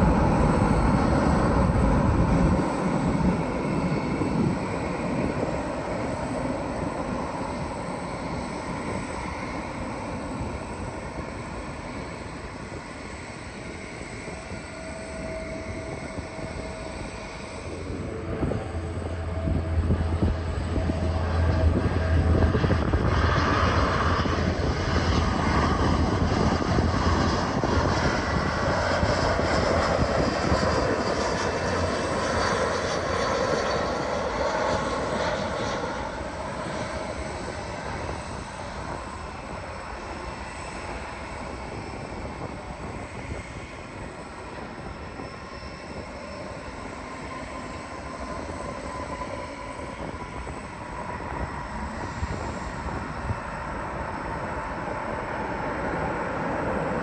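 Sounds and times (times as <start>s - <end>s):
jet airliner engines roaring overhead: 0.0s - 57.0s.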